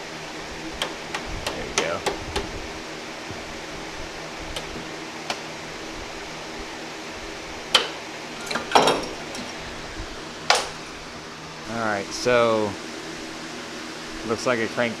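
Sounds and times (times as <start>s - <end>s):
steady fan-like hum: 0.0s - 15.0s.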